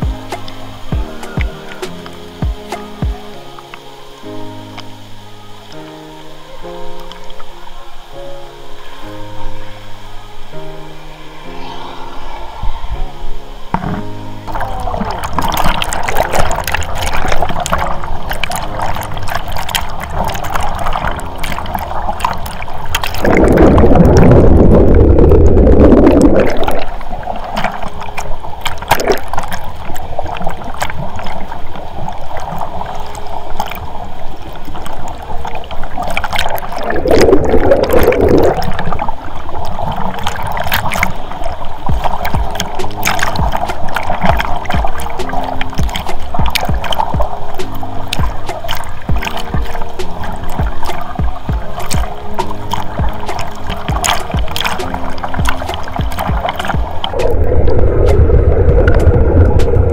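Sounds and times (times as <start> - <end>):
whirlpool water bubbling and splashing: 0.0 - 59.9.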